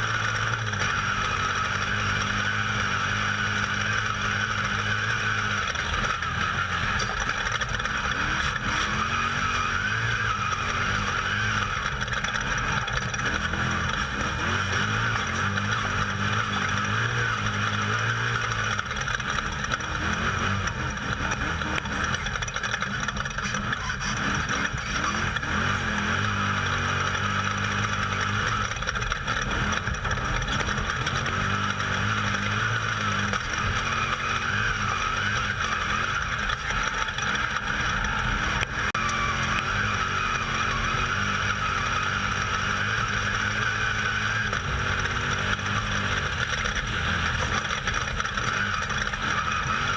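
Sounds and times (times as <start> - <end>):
off-road vehicle engine at speed: 0.0 - 49.9.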